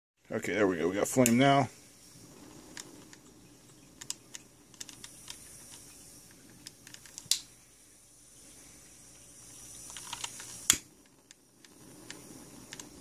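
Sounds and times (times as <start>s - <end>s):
gas flame hissing: 0.3s - 13.0s.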